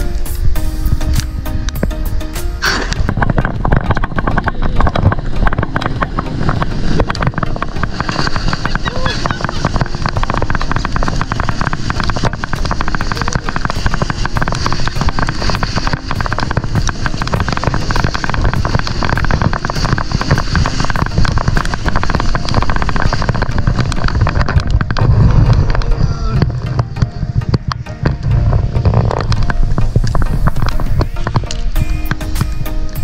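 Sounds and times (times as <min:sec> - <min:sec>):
heavy low rumble: 0:00.0 - 0:33.0
sled scraping over snow: 0:02.6 - 0:33.0.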